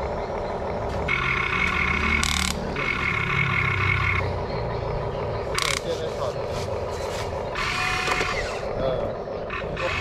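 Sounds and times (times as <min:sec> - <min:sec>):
electric motors whining: 0:00.8 - 0:10.0.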